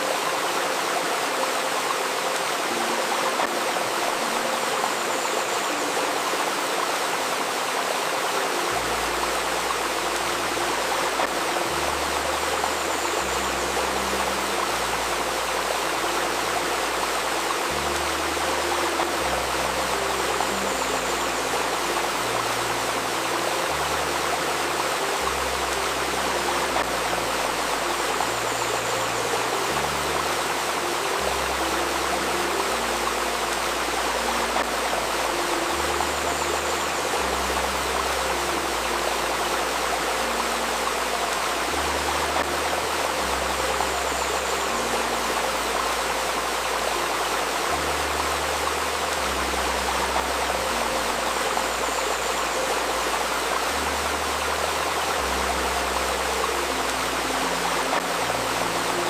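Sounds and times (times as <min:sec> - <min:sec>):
low synthesized tones: 0:00.0 - 0:59.0
river babbling over stones: 0:00.0 - 0:59.0.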